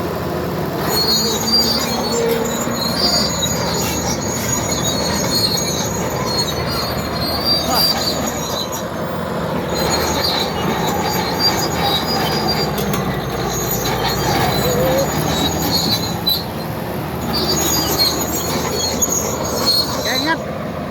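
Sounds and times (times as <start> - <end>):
bulldozer diesel engine under load: 0.0 - 20.9
steel tracks squealing and rattling: 0.2 - 20.9.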